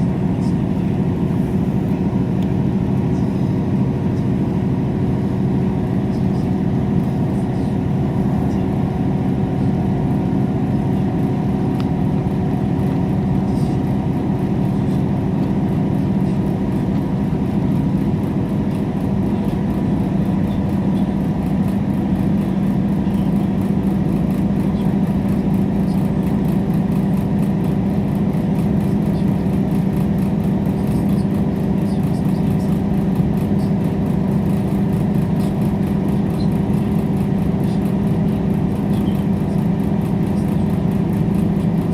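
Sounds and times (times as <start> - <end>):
diesel train engine hum: 0.0 - 41.9.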